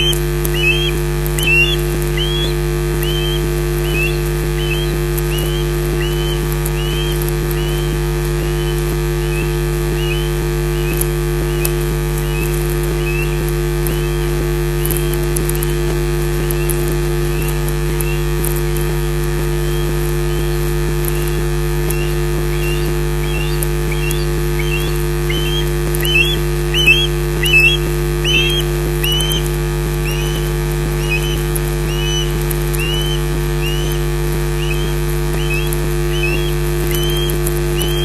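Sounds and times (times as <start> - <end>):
osprey whistled calls: 0.0 - 38.0
steady electrical hum: 0.0 - 38.0.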